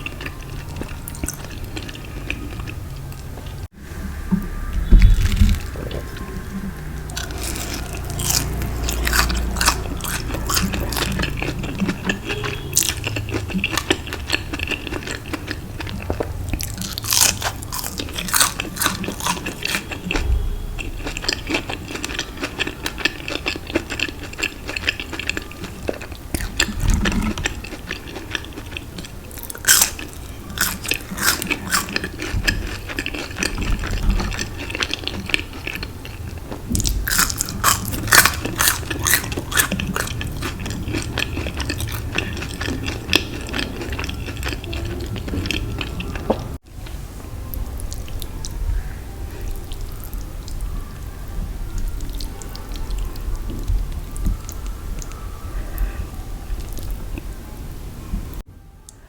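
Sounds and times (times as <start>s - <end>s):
person chewing crunchy food: 0.0s - 48.6s.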